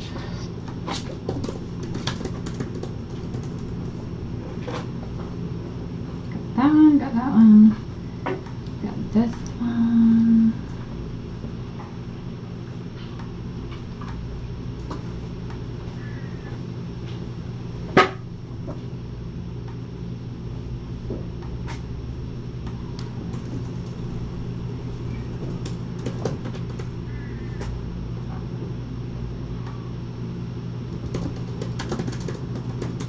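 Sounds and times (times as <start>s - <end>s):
low room hum: 0.0s - 33.0s.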